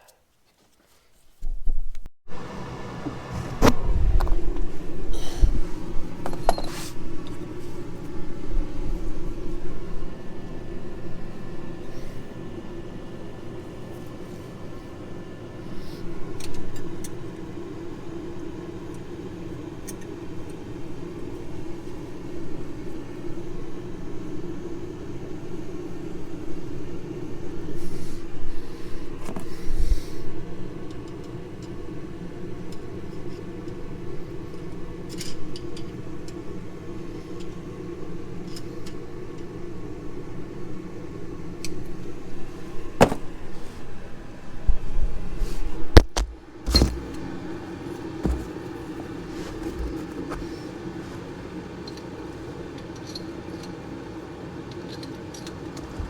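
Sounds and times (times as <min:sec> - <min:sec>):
low machine hum: 0:02.3 - 0:56.0.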